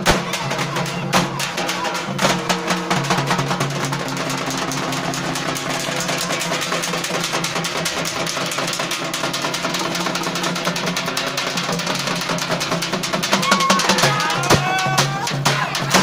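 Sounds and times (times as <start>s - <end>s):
frame drums beating: 0.0s - 16.0s.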